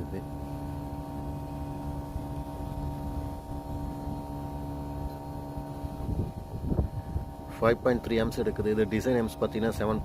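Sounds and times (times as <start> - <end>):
air conditioner humming: 0.0 - 10.0.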